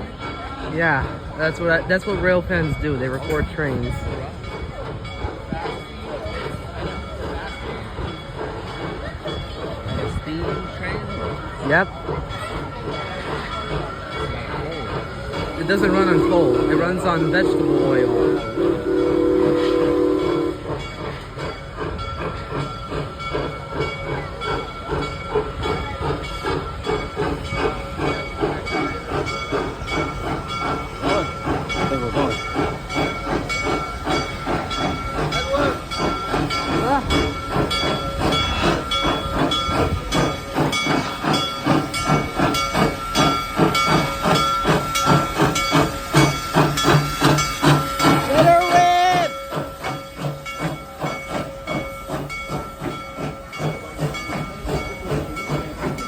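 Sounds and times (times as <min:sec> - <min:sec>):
steam locomotive exhaust beat: 0:00.0 - 0:56.0
steam hiss: 0:00.6 - 0:56.0.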